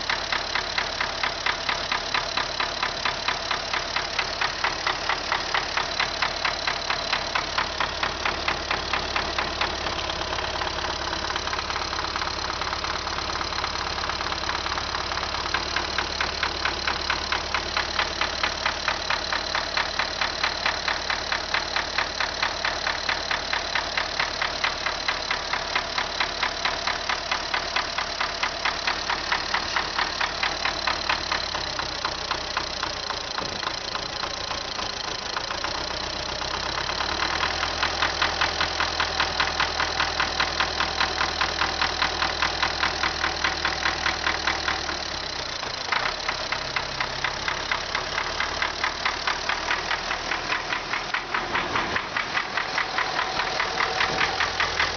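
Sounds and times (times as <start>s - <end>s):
diesel tractor engine idling: 0.0s - 54.9s.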